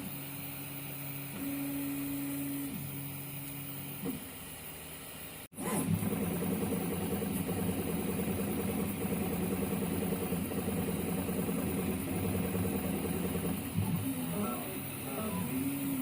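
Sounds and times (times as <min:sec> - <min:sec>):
three d printer motors whirring: 0:00.0 - 0:04.4, 0:05.5 - 0:16.0.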